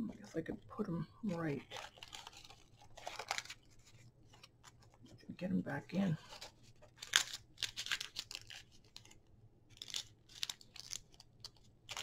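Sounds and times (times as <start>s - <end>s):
paper rustling and crinkling: 1.3s - 5.3s, 6.0s - 12.0s.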